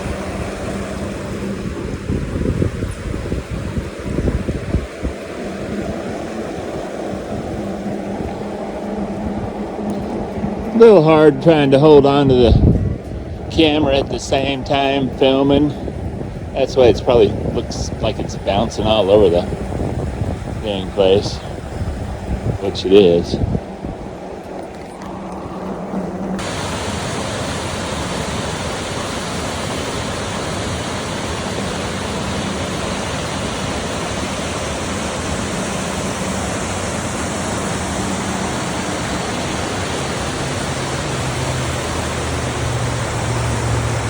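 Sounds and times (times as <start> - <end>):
mountain stream rushing: 0.0 - 44.0.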